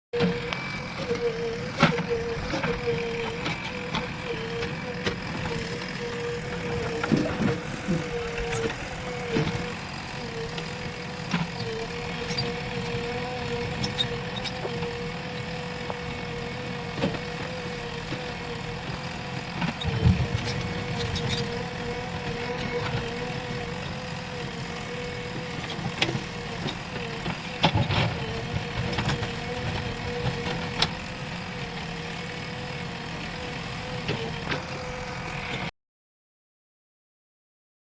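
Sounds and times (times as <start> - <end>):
diesel engine running: 0.2 - 35.7.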